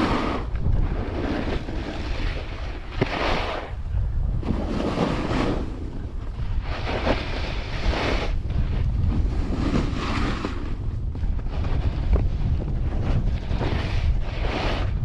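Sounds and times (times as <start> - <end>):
snowboard edge scraping snow: 0.0 - 3.8, 4.4 - 15.0
wind buffeting microphone: 0.0 - 15.0.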